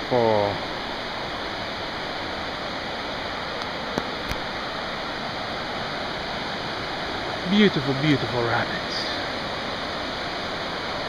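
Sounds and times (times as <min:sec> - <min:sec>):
rushing creek rapids: 0:00.0 - 0:11.0.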